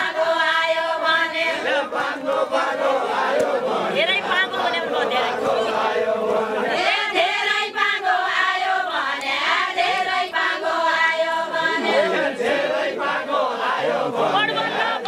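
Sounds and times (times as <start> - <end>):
women singing folk song in chorus: 0.0 - 15.0.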